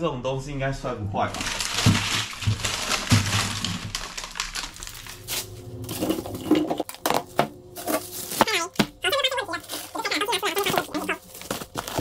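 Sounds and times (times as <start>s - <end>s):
frozen packages clattering: 1.3s - 12.0s
plastic bags rustling: 1.3s - 12.0s.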